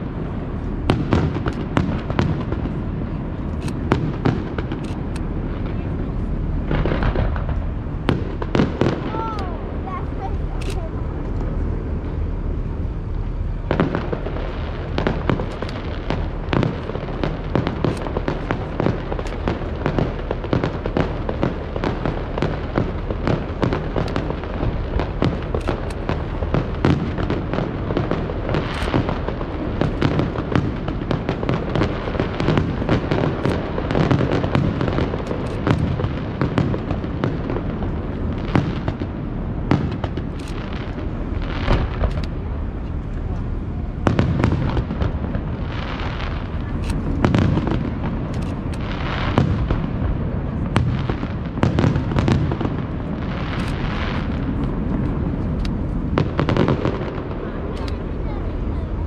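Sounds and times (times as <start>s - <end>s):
fireworks crackling and popping: 0.0s - 59.0s
loud fireworks reports: 0.0s - 59.0s.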